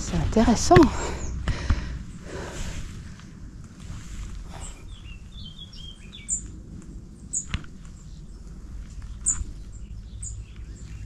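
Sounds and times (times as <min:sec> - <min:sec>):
birds chattering calls: 0:00.0 - 0:11.0
low rumble: 0:00.0 - 0:11.0.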